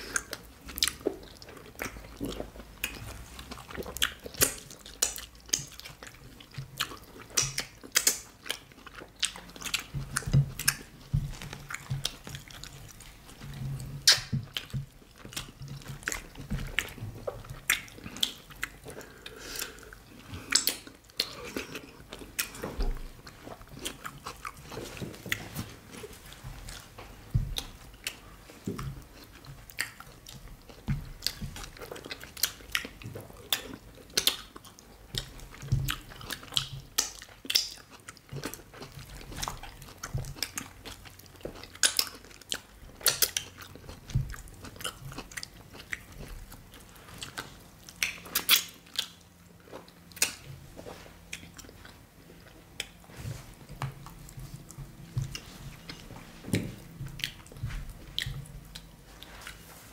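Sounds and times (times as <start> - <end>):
people chewing with wet smacks: 0.0 - 59.9.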